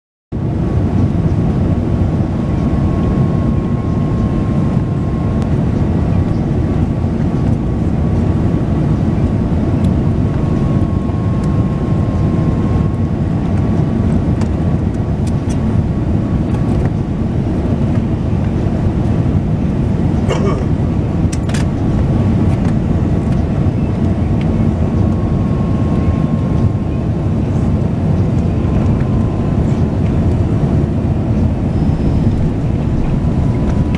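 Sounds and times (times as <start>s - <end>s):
aircraft cabin engine rumble: 0.4s - 33.9s
thin steady whine: 0.4s - 33.9s.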